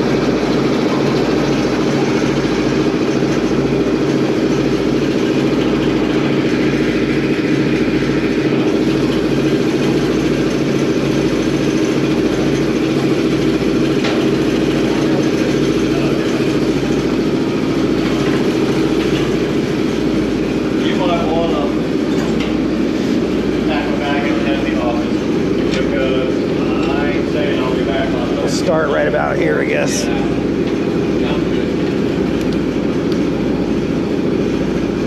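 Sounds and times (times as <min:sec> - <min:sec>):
large engine idling: 0:00.0 - 0:35.0.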